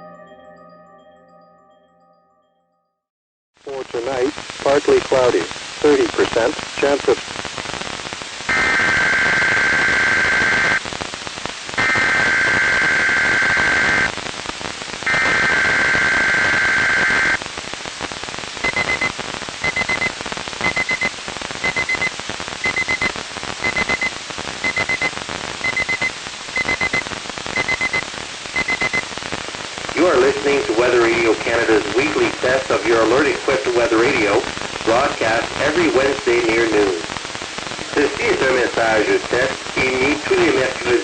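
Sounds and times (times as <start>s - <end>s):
radio static: 3.7s - 41.0s.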